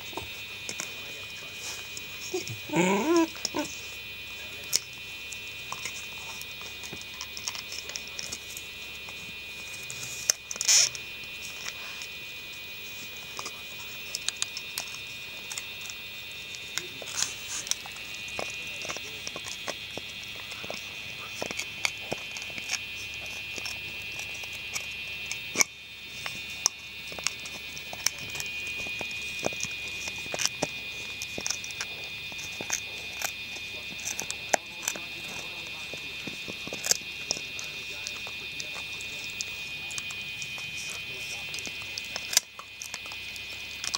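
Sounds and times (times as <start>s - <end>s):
high-pitched whine: 0.0s - 43.9s
puppies gnawing wood: 0.0s - 43.9s.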